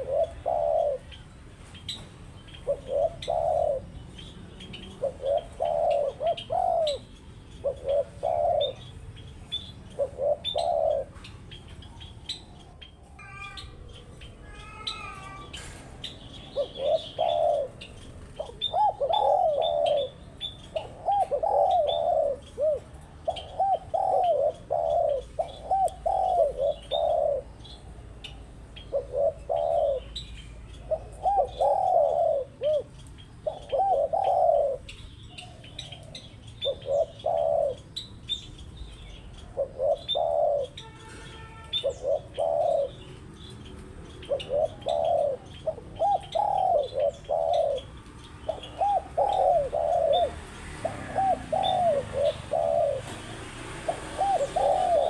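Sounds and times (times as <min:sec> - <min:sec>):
doves cooing: 0:00.0 - 0:55.0
small birds chirping: 0:00.0 - 0:55.0.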